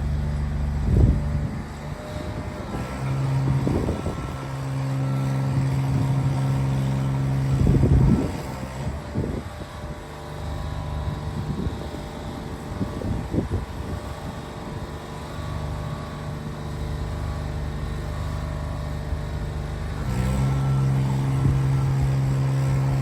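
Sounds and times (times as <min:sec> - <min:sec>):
truck engine humming: 0:00.0 - 0:23.0.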